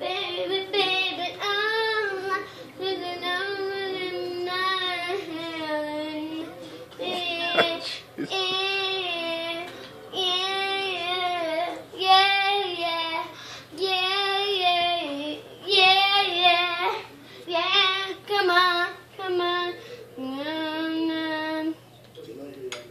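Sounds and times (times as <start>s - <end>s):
girl singing unaccompanied: 0.0s - 21.8s.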